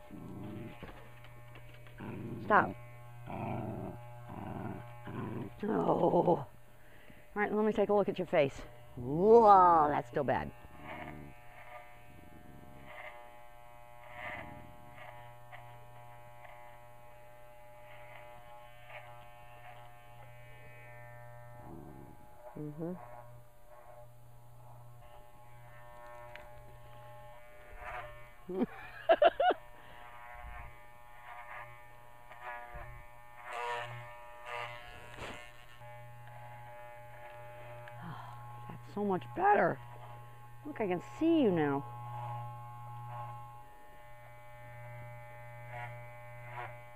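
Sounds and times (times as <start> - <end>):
electric clippers buzzing: 0.0 - 46.9.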